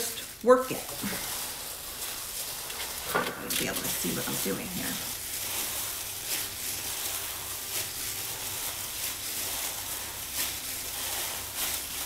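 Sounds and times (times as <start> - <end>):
plastic gloves crinkling: 0.0 - 12.0
wet squelching of meat kneaded by hand: 0.0 - 12.0.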